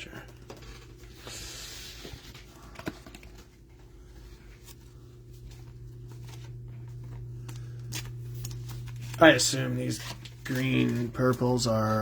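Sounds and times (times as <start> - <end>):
steady low hum: 0.0 - 12.0
trading cards being handled: 0.1 - 12.0.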